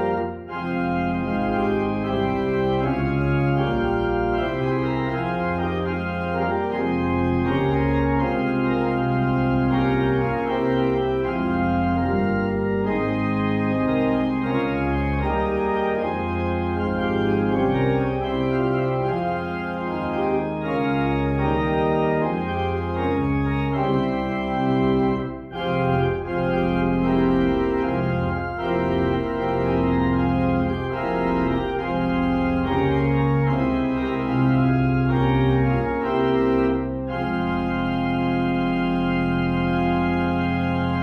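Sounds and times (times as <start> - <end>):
organ playing sustained chords: 0.0 - 41.0.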